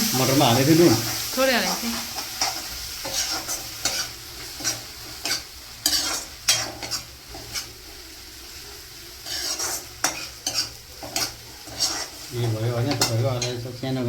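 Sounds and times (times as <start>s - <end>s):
food sizzling: 0.0s - 14.0s
spoon scraping a pan: 0.9s - 8.0s, 9.2s - 13.6s.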